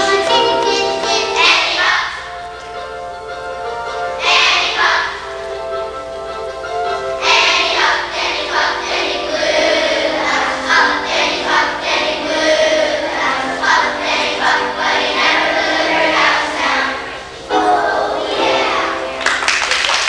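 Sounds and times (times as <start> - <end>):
children's choir singing: 0.0 - 3.0, 3.7 - 19.6.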